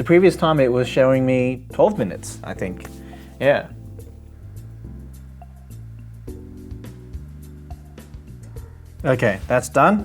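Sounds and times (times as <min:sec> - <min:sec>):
lounge music with bass and beat: 0:00.0 - 0:10.0.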